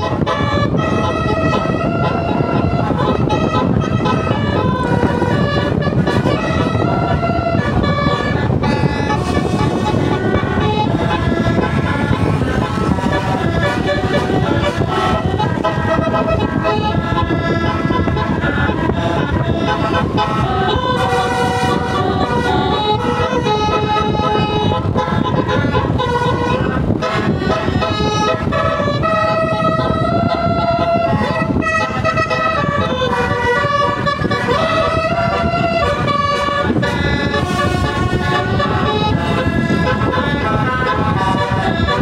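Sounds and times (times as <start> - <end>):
multi-tone musical bus horn: 0.0 - 42.0
steady low rumble: 0.0 - 42.0.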